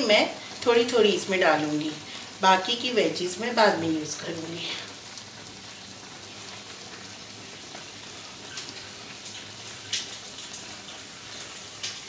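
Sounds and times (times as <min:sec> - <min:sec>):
noodles boiling in water: 0:00.0 - 0:12.0.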